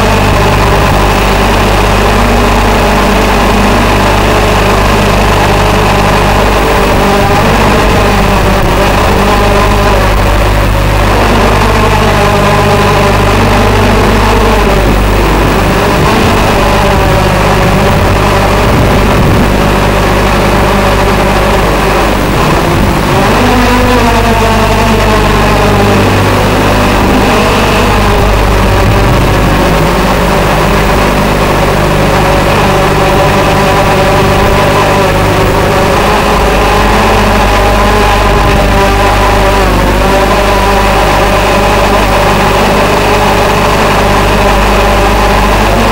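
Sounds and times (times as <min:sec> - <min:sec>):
drone propellers buzzing: 0:00.0 - 0:45.9
steady low hum: 0:00.0 - 0:45.9.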